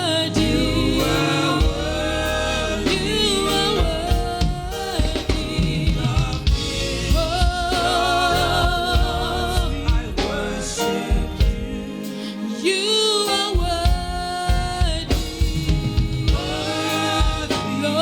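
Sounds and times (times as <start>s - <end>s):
band with drum beat and bass: 0.0s - 12.0s, 13.3s - 18.0s
voices singing long notes: 0.0s - 13.5s, 15.1s - 18.0s.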